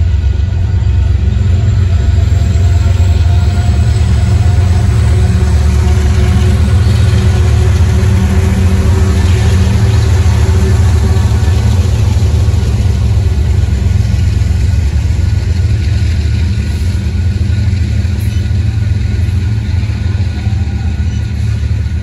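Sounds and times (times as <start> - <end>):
diesel locomotive engines running: 0.0 - 22.0
heavy rumble of train: 0.0 - 22.0.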